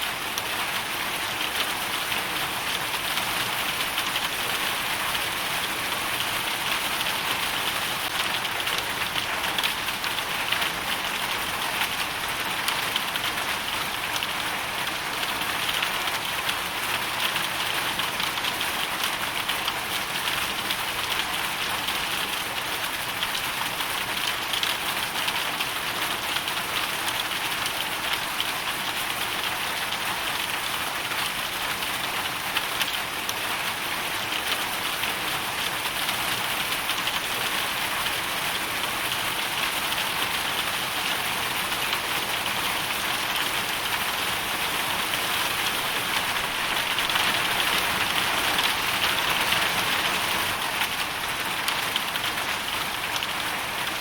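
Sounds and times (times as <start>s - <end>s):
hail and rain falling: 0.1s - 54.0s.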